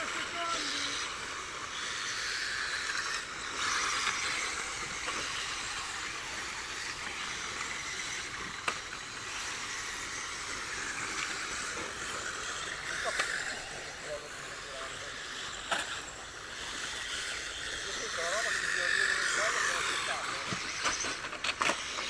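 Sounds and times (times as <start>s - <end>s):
small motors and tyres on dirt: 0.0s - 22.0s.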